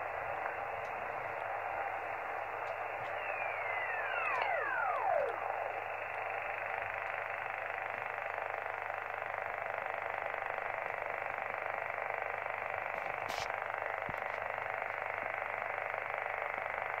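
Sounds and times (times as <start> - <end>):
radio interference hiss: 0.0 - 17.0.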